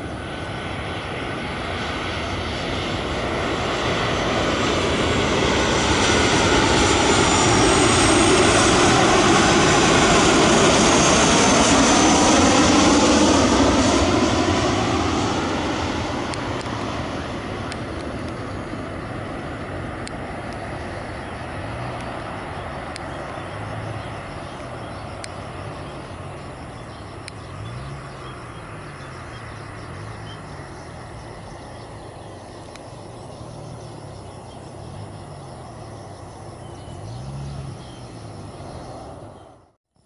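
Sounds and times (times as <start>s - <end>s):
distant jet engines rushing: 0.0s - 39.8s.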